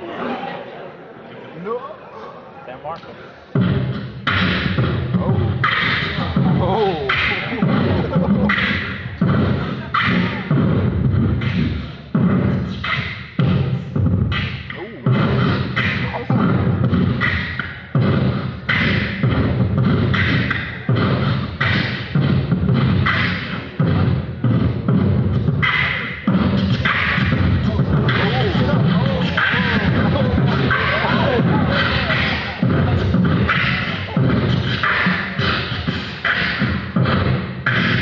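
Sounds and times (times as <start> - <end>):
man beatboxing: 3.5 - 38.0.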